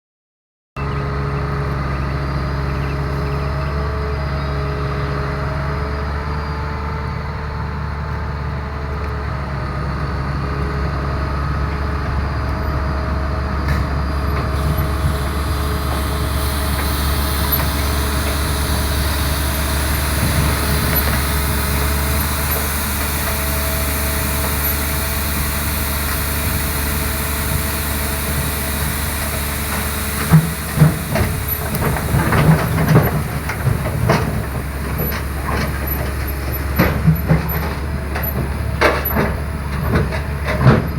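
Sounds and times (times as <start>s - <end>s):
diesel engine humming: 0.8s - 40.9s.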